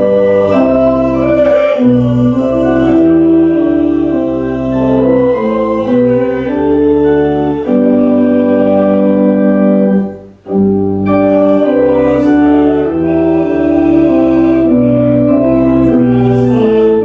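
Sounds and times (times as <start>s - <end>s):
church organ playing hymn chords: 0.0s - 17.0s.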